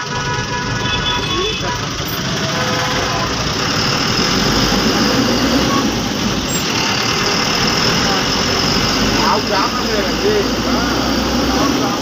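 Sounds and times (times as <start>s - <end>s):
bus engine running: 0.0s - 12.0s
road noise: 0.0s - 12.0s.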